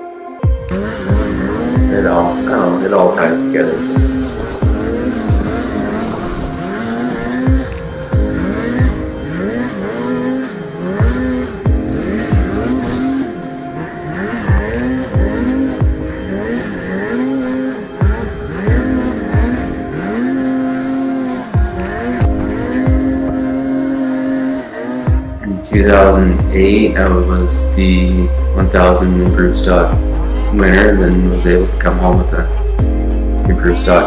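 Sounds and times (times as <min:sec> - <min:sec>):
snowmobile engine revving: 0:00.5 - 0:34.0.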